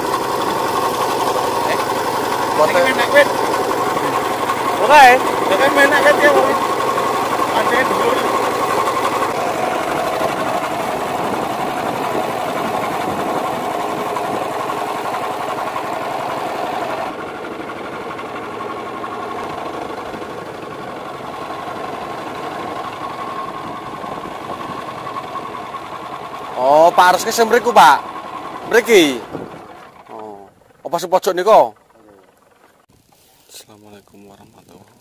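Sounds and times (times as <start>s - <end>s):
small boat engine running: 0.0s - 35.0s.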